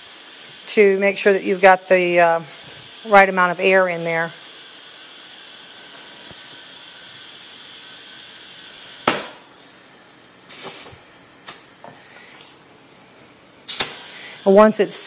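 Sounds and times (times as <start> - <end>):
air hissing from tire valve: 0.0 - 15.0.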